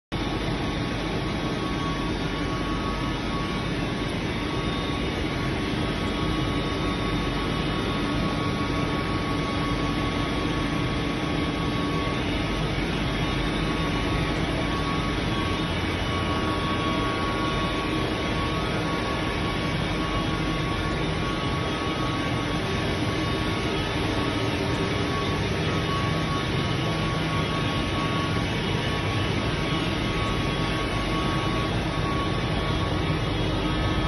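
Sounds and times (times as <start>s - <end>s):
high machine whine: 0.1s - 34.0s
printing press mechanical hum: 0.2s - 34.0s.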